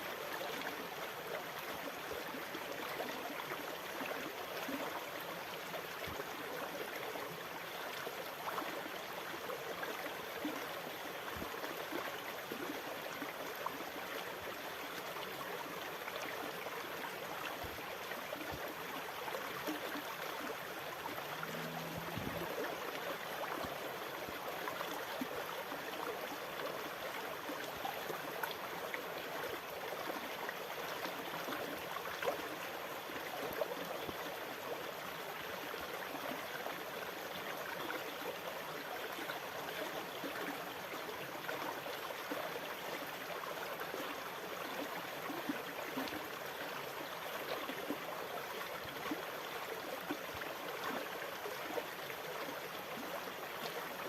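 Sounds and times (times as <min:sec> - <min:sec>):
water gurgling and trickling: 0:01.6 - 0:54.0.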